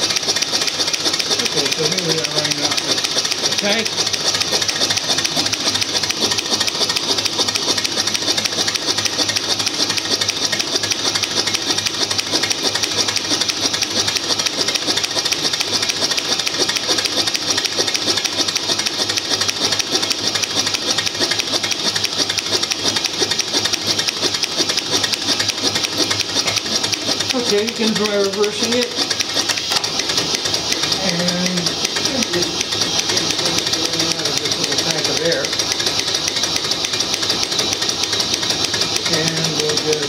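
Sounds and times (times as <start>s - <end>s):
steam engine mechanical clatter: 0.0s - 40.0s.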